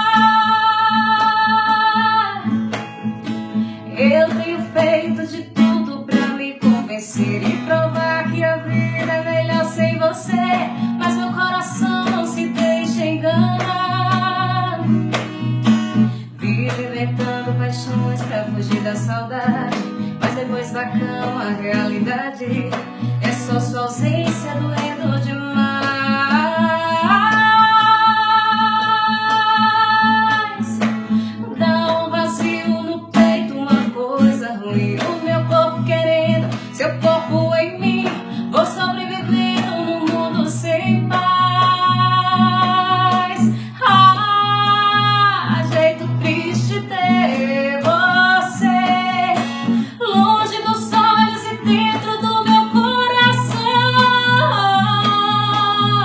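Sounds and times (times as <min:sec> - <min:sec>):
strummed acoustic guitar: 0:00.0 - 0:56.0
woman singing: 0:00.0 - 0:56.0.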